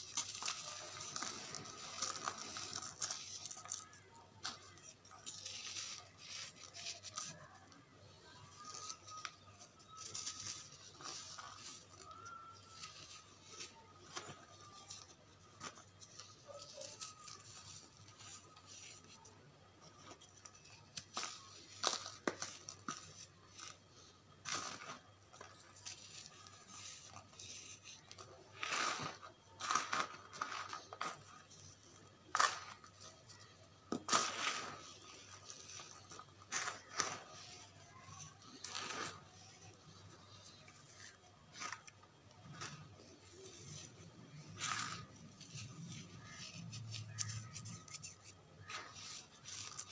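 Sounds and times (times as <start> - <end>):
charcoal crumbling by hand: 0.0 - 49.9.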